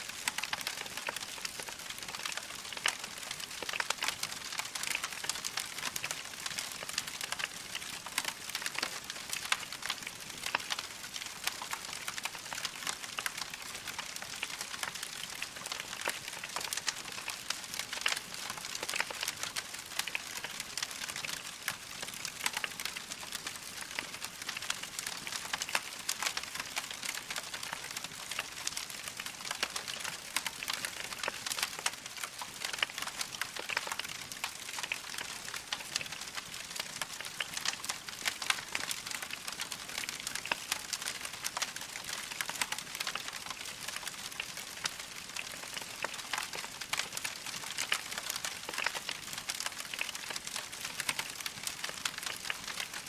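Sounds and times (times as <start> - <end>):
wood fire crackling: 0.1 - 53.0.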